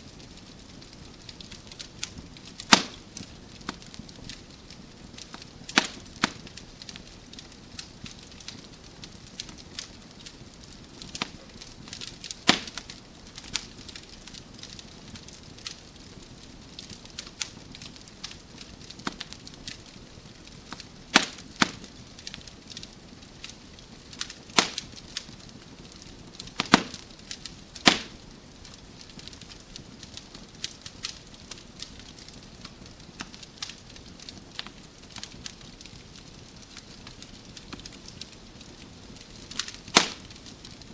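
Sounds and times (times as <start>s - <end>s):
sharp pops of fire: 0.0s - 40.9s
wood fire crackling: 0.0s - 40.9s.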